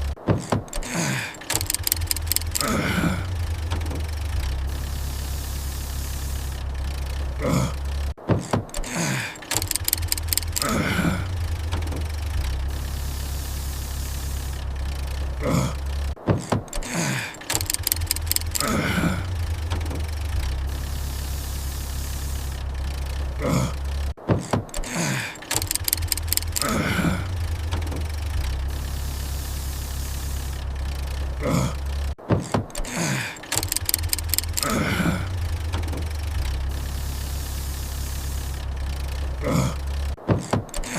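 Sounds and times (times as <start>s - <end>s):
cartoon car engine hum: 0.0s - 40.9s
clicks and sputtering falling tones: 1.4s - 8.1s, 9.4s - 16.2s, 17.4s - 24.1s, 25.4s - 32.1s, 33.4s - 40.2s.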